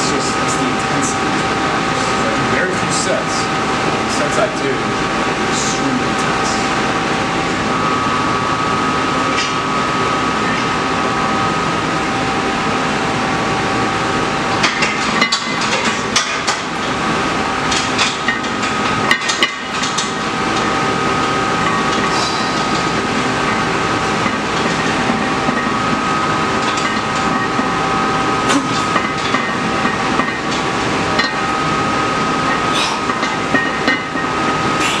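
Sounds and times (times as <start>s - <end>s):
fan whirring: 0.0s - 35.0s.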